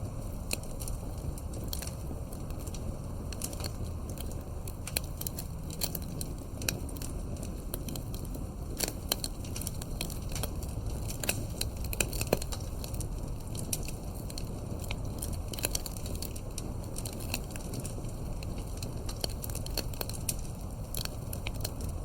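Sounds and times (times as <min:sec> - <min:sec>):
campfire crackling and popping: 0:00.0 - 0:22.0
fire low rumble: 0:00.0 - 0:22.0.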